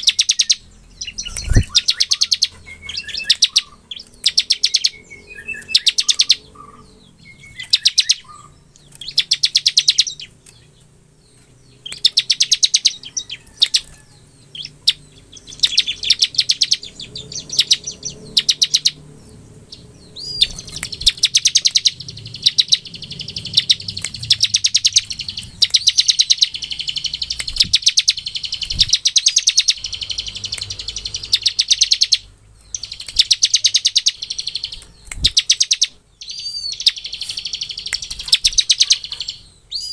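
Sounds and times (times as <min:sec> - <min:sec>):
bird singing rapid rattling song: 0:00.0 - 0:39.9.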